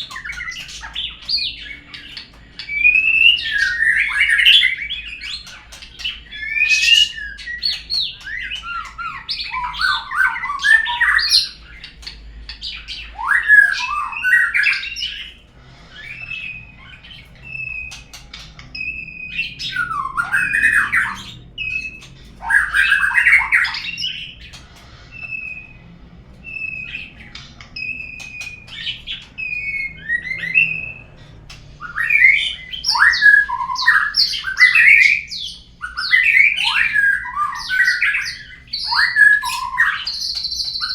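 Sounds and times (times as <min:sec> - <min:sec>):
songbird whistling and chattering: 0:00.0 - 0:40.9.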